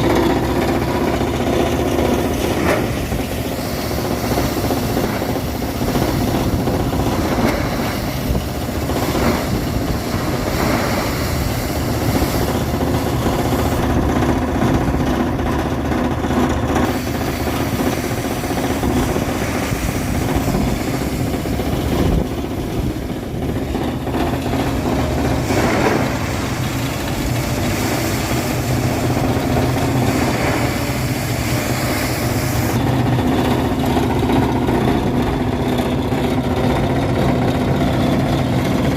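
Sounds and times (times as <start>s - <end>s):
engine humming steadily: 0.0s - 38.9s.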